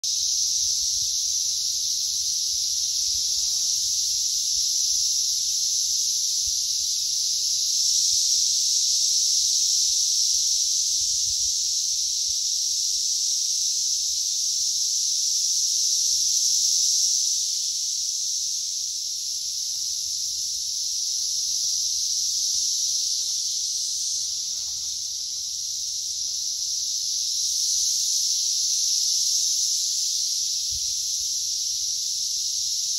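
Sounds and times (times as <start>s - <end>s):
cicadas buzzing loudly: 0.0s - 32.9s.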